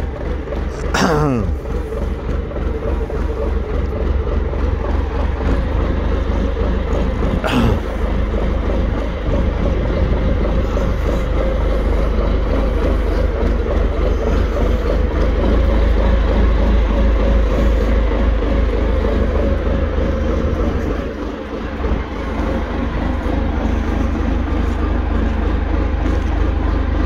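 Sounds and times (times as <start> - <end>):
forklift engine rumbling: 0.0 - 27.0.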